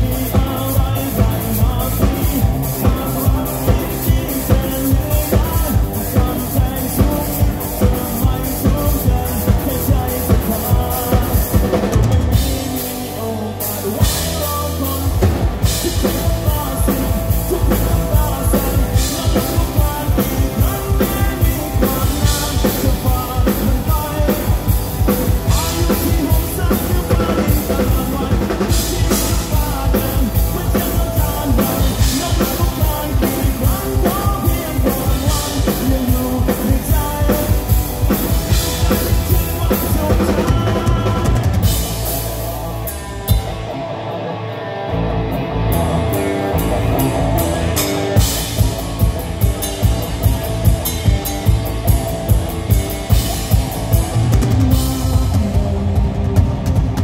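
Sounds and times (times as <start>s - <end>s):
drum kit beat: 0.0s - 43.8s, 45.7s - 57.0s
bass guitar: 0.0s - 57.0s
electric guitar: 0.0s - 57.0s.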